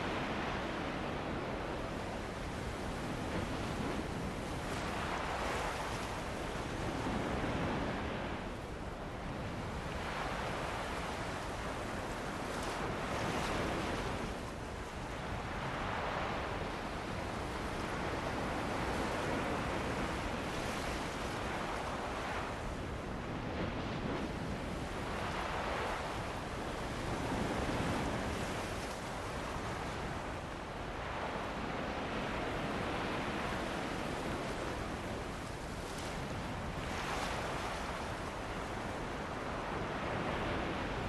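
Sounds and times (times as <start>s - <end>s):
ocean surf washing onto beach: 0.0s - 41.0s.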